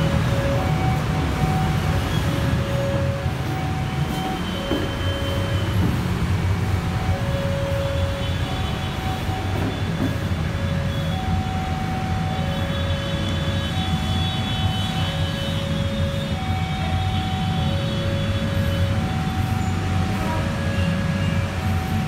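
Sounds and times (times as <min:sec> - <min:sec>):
alternating two-tone notes: 0:00.0 - 0:21.6
electric train rumbling: 0:00.0 - 0:22.0.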